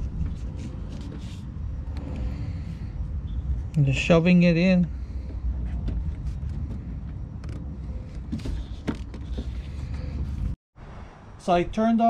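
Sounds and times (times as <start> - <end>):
steady low rumble: 0.0 - 11.5.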